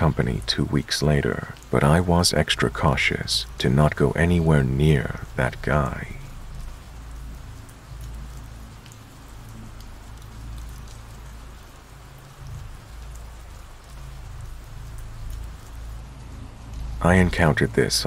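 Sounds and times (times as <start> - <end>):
rain drop ticks: 0.0 - 18.0
steady rain falling: 0.0 - 18.0.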